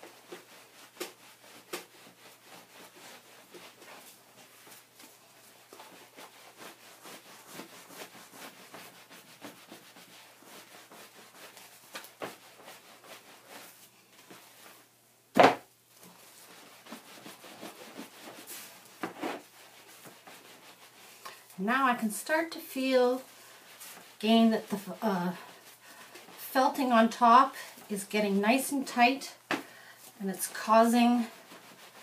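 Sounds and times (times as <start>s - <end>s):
hands rubbing wet felt: 0.0s - 14.9s, 15.9s - 32.0s.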